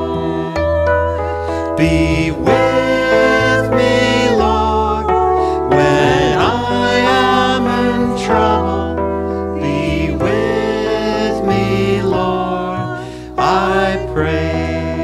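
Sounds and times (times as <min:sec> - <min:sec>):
church organ playing chords: 0:00.0 - 0:15.0
person singing: 0:00.0 - 0:15.0.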